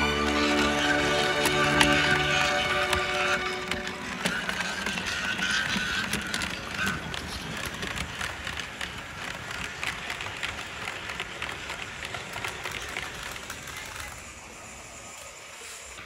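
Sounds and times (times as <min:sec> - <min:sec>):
model train wheels clicking on rails: 0:00.0 - 0:16.0.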